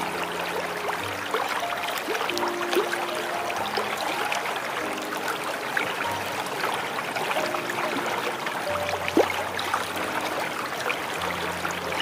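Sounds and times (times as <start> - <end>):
small waterfall splashing: 0.0 - 12.0
soft melody of held notes: 0.0 - 12.0.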